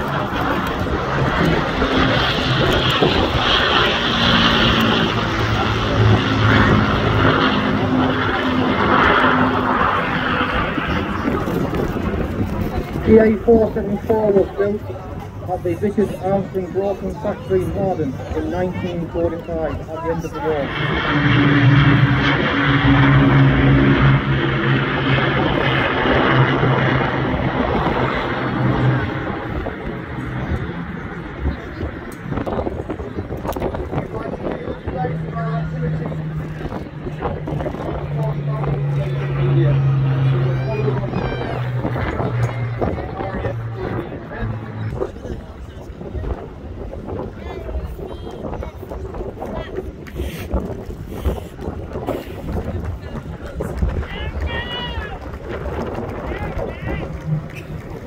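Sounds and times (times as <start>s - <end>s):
propeller plane engines droning: 0.0s - 58.0s.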